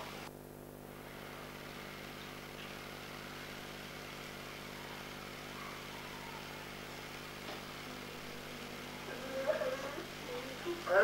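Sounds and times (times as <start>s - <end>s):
film soundtrack hum and hiss: 0.0s - 11.0s.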